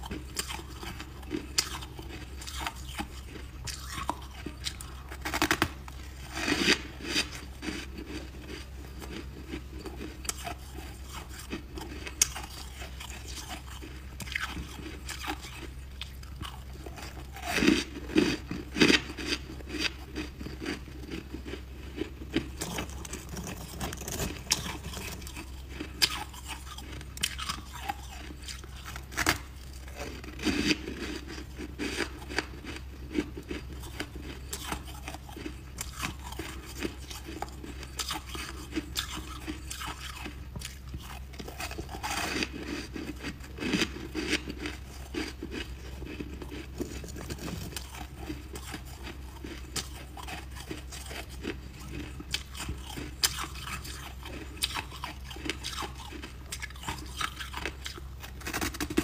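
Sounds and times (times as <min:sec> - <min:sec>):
ice crunching being chewed: 0:00.0 - 0:59.0.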